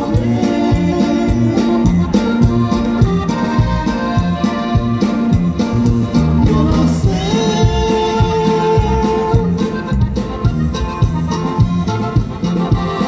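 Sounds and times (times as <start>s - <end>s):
accordion: 0.0s - 13.0s
live band through speakers: 0.0s - 13.0s.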